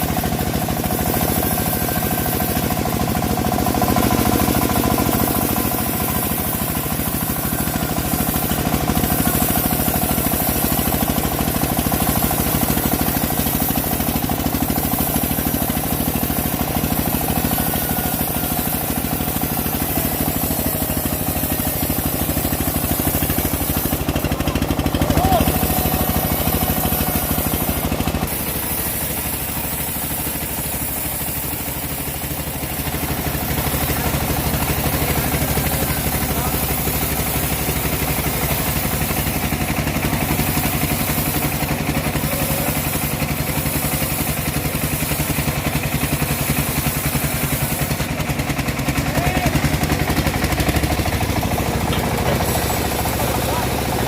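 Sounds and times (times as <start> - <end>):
bandsaw engine running: 0.0 - 54.0.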